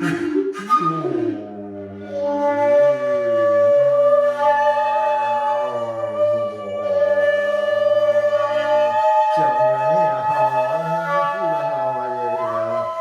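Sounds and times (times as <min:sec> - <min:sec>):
low wavering tone: 0:00.0 - 0:13.0.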